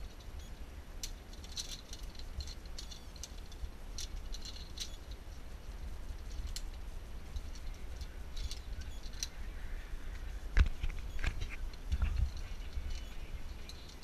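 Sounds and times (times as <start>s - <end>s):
carabiners clicking and clinking: 0.0s - 9.5s, 10.1s - 14.0s
steady low rumble: 0.0s - 14.0s.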